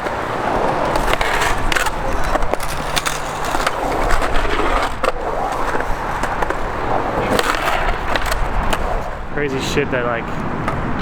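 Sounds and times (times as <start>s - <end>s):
skateboard clacks: 0.0s - 11.0s
skateboard wheels rolling: 0.0s - 11.0s.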